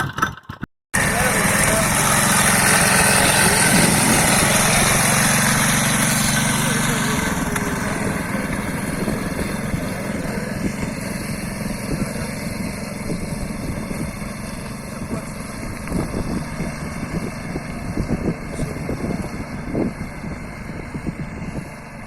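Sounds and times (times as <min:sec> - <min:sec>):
engine knocking: 0:00.0 - 0:22.0
small motorcycle engine running: 0:00.0 - 0:22.0.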